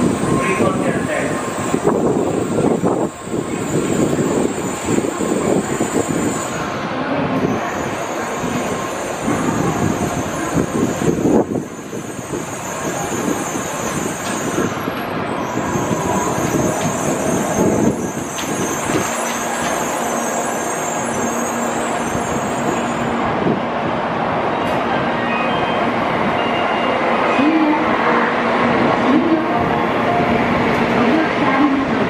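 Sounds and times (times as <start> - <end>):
train mechanical running noise: 0.0 - 26.7.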